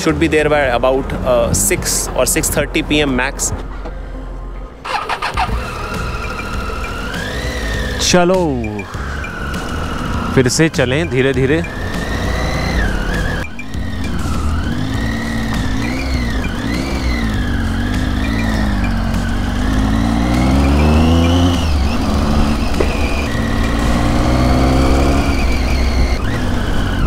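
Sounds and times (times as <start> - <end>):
motorcycle engine pulling: 4.8 - 27.0.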